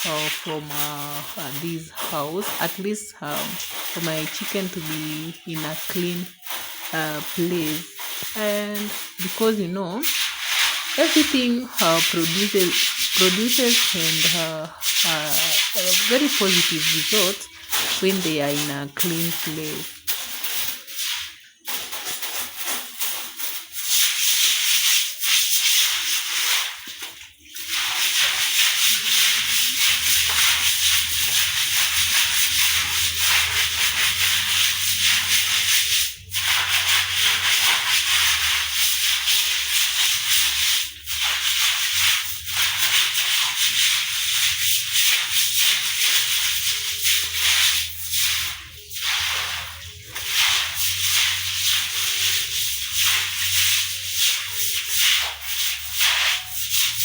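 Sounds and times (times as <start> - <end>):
broom scrubbing wet floor: 0.0 - 57.0.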